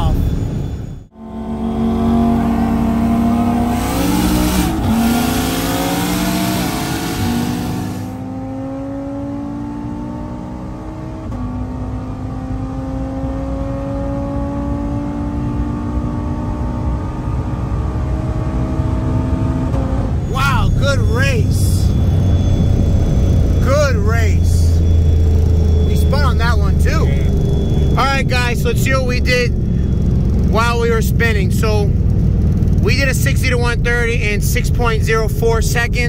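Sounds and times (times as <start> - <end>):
car engine revving at full throttle: 1.1 - 36.0.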